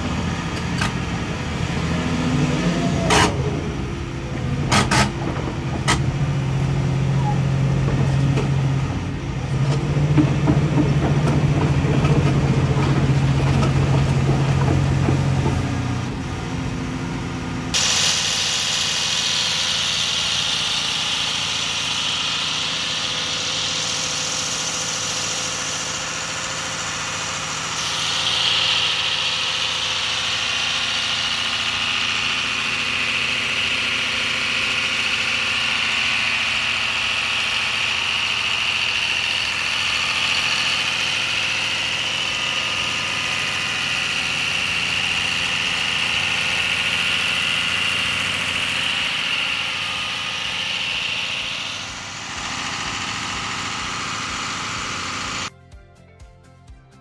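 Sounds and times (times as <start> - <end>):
diesel engine idling: 0.0 - 55.5.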